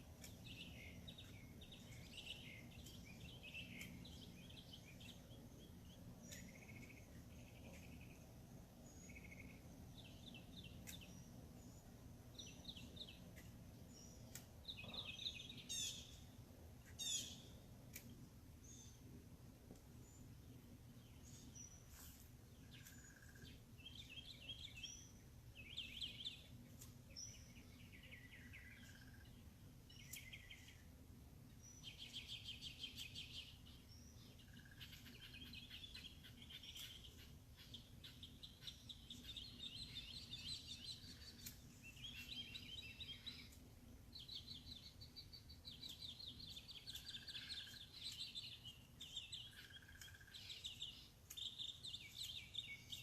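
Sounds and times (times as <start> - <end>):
songbirds singing and calling: 0.0 - 53.0.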